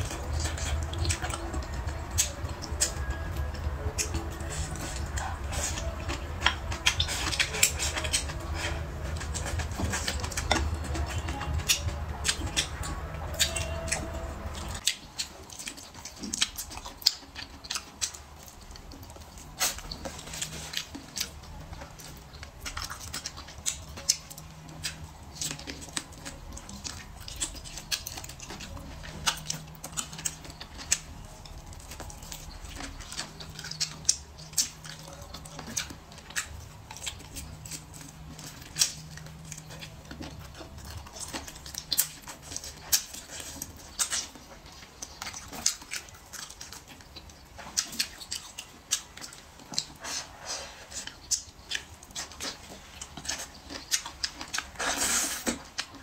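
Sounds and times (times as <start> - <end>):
chewing crisp food: 0.0 - 56.0
chopsticks ticking: 0.0 - 56.0.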